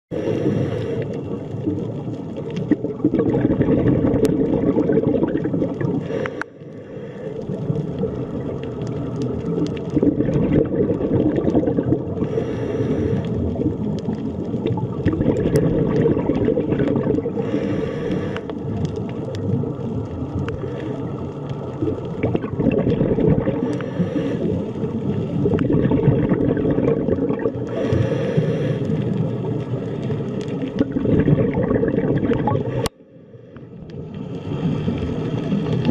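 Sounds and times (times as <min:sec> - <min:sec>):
hissy water swells: 0:00.1 - 0:35.9
underwater low rumble: 0:00.1 - 0:35.9.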